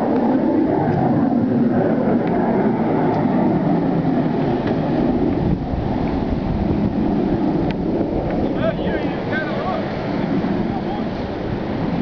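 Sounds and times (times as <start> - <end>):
ocean surf: 0.0 - 12.0
wind: 0.0 - 12.0
wind rumbling on microphone: 0.0 - 12.0.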